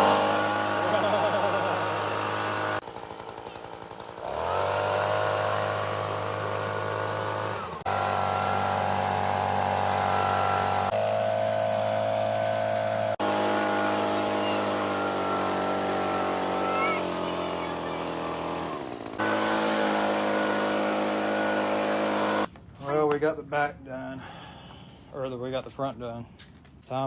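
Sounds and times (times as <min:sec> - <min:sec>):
leaf blower engine running: 0:00.0 - 0:22.6.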